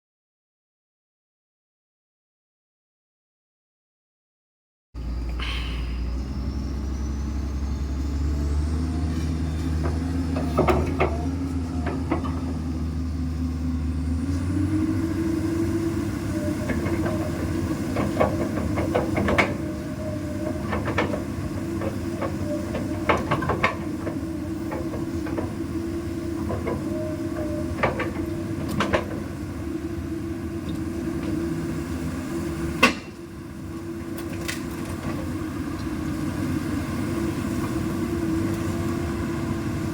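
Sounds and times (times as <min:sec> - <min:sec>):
excavator diesel engine running: 0:05.0 - 0:39.9.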